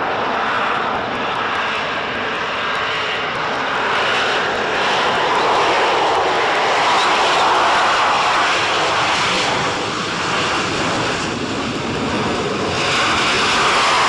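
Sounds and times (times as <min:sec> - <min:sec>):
loud jet noise: 0:00.0 - 0:14.0.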